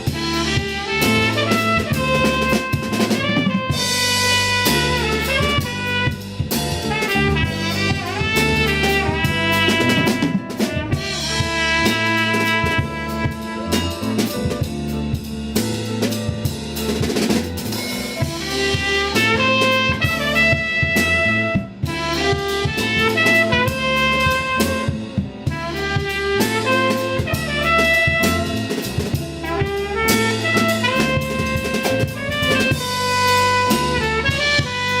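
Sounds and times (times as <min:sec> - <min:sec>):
bass line: 0:00.0 - 0:35.0
drum kit with rimshots: 0:00.0 - 0:35.0
horn melodies: 0:00.0 - 0:35.0.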